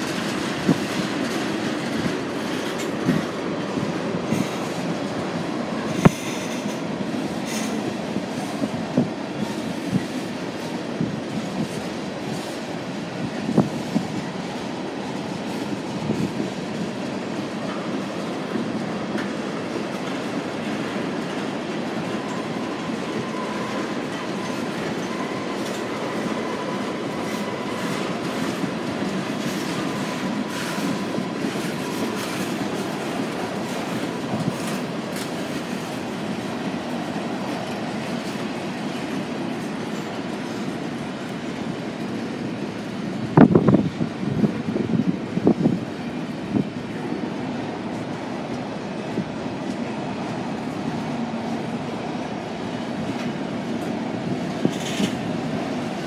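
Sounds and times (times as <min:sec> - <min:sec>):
train wheels clattering: 0:00.0 - 0:56.0.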